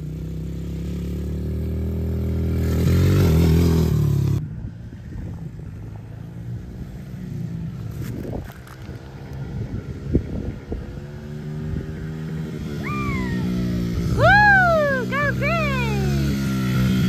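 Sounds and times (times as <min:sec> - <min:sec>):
dirt bike engine passing: 0:00.0 - 0:17.0
distant dirt bike engine: 0:00.0 - 0:17.0.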